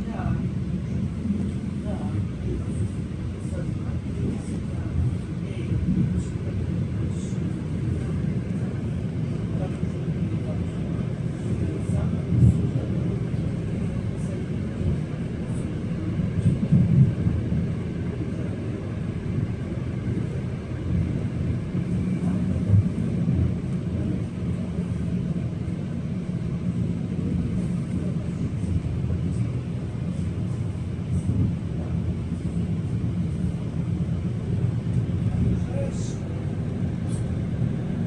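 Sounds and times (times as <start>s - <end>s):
train running noise: 0.0s - 38.0s.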